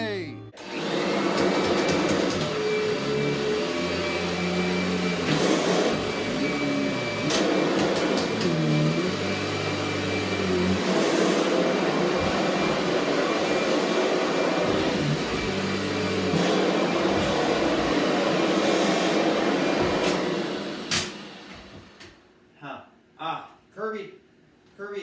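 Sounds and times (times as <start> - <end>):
upright vacuum cleaner running: 0.6 - 22.1.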